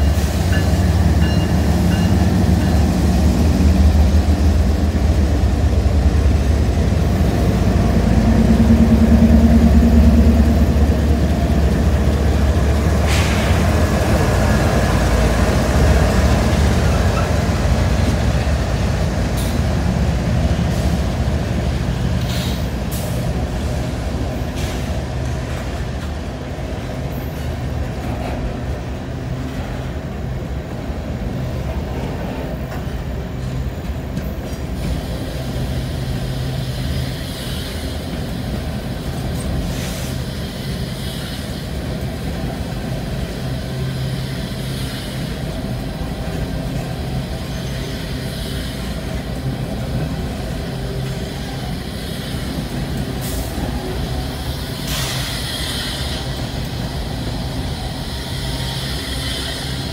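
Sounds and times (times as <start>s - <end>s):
locomotive engine rumble: 0.0s - 59.9s.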